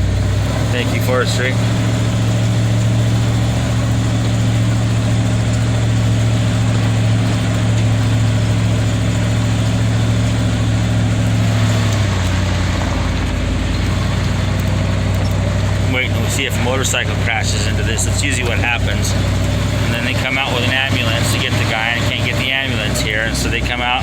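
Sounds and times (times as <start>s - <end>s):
vehicle engine on dirt road: 0.0s - 24.0s.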